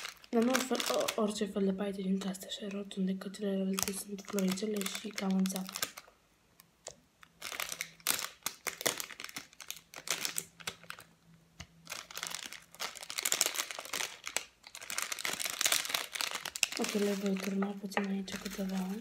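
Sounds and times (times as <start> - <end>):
plastic packet crinkling: 0.0 - 6.2, 7.2 - 19.0.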